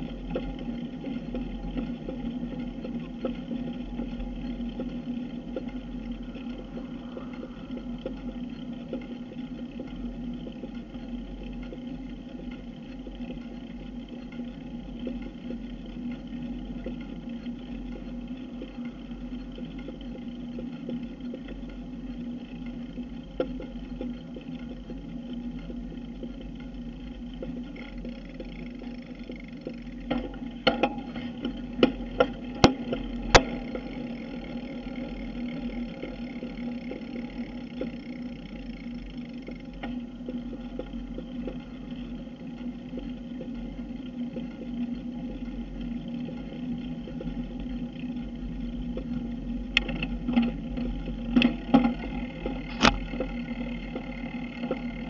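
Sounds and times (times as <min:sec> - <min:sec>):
bicycle wind and tyre noise: 0:00.0 - 0:55.0.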